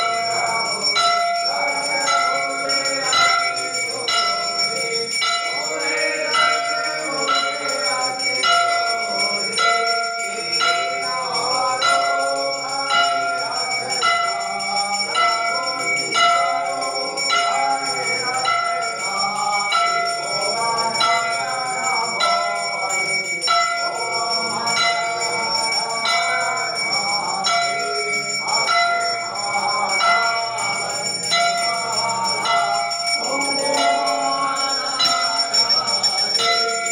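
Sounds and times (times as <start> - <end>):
temple bell ringing: 0.0 - 36.9
voices singing: 0.0 - 36.9.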